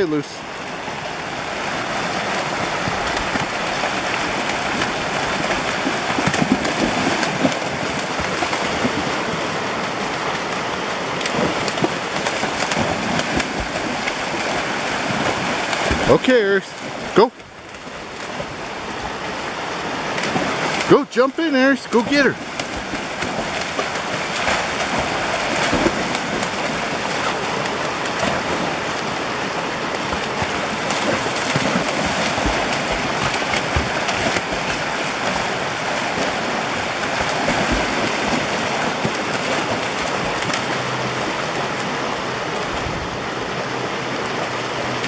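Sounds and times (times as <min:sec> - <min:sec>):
creek rushing over stones: 0:00.0 - 0:45.0
dog splashing through water: 0:00.8 - 0:21.0, 0:21.8 - 0:42.9.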